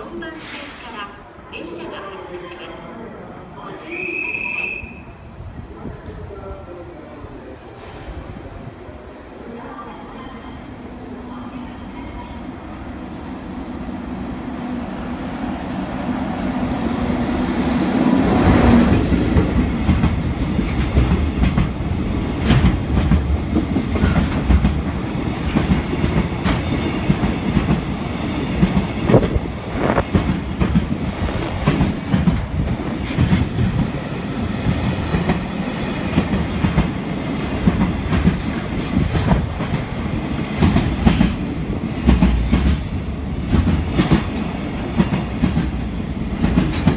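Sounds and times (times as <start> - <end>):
freight train passing: 0.0 - 46.9.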